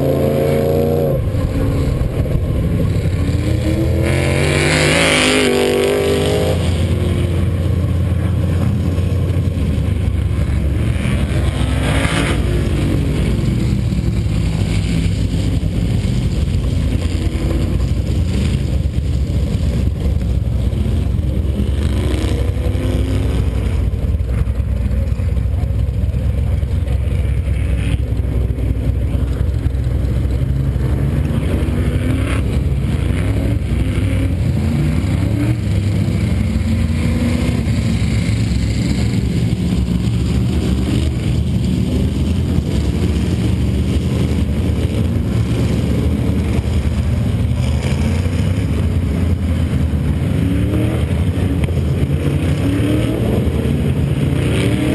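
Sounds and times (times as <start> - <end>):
engine idling deep rumble: 0.0 - 54.9
race car engines passing: 0.0 - 54.9.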